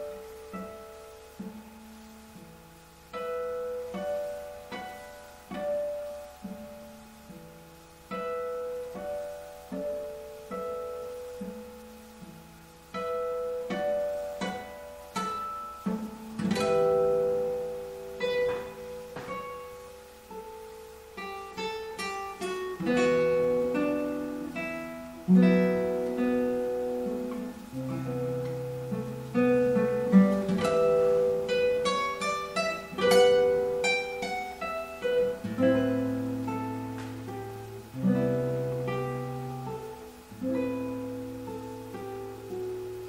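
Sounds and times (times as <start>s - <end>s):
classical guitar fingerstyle: 0.0s - 43.0s.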